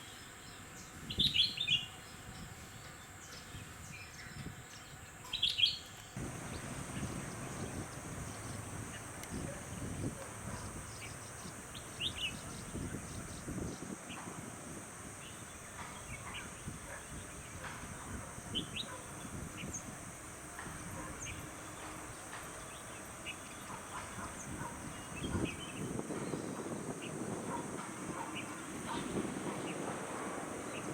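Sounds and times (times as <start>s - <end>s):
birds chirping: 0.0s - 30.9s
high-pitched hiss: 5.9s - 30.9s.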